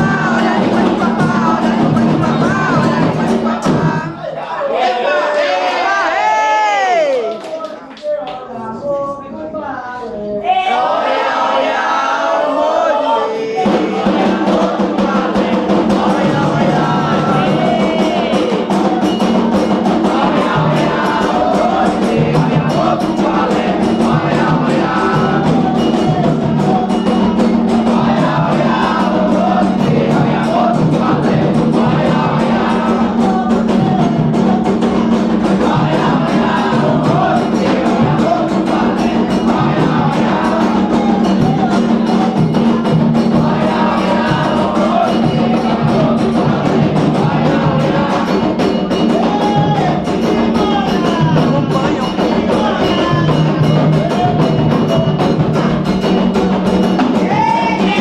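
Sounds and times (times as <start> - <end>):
hand drums beating: 0.0 - 4.2, 13.5 - 58.0
group singing a chant: 0.0 - 58.0.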